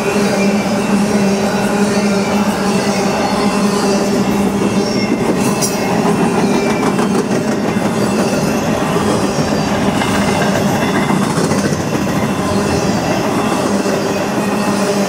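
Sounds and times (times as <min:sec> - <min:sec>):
freight train wheels rolling on rails: 0:00.0 - 0:15.0.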